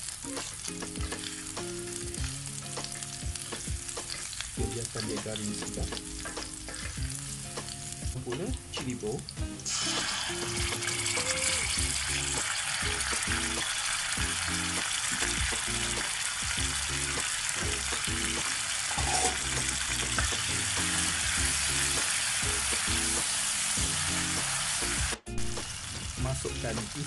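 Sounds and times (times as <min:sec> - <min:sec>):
paste sizzling in hot oil: 0:00.0 - 0:27.0
background music: 0:00.2 - 0:27.0.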